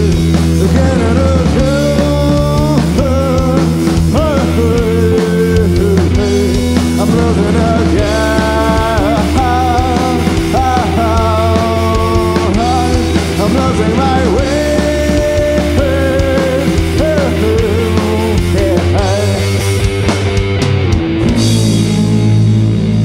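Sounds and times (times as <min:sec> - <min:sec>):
drums: 0:00.0 - 0:23.0
electric bass: 0:00.0 - 0:23.0
electric guitar lead line: 0:00.0 - 0:23.0.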